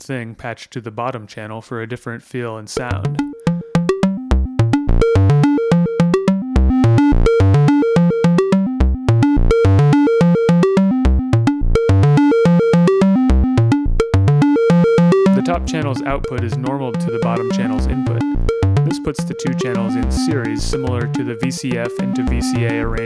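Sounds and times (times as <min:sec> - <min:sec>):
low synth bass notes: 0:02.8 - 0:23.0
synthesizer plucked notes: 0:02.8 - 0:23.0.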